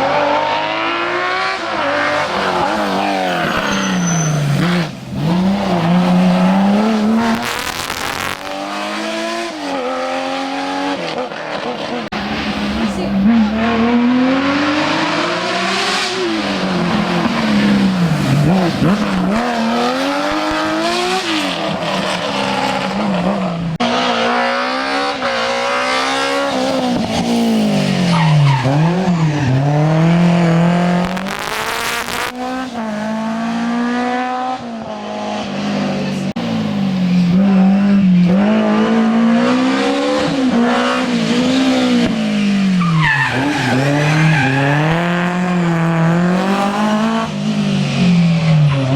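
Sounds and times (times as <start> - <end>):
rally car engines at full throttle: 0.0 - 48.9.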